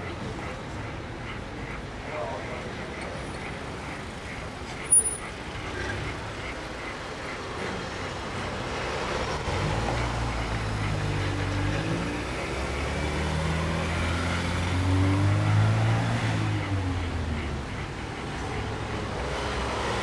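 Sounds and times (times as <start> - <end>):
traffic noise: 0.0 - 20.0
vehicle engine passing: 0.1 - 20.0.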